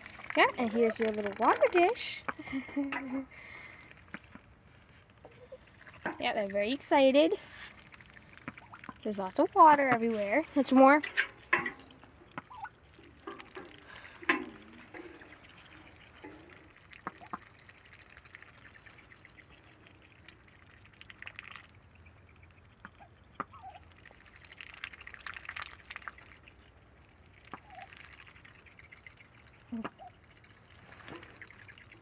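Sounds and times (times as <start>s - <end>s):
ducks splashing in water: 0.0s - 32.0s.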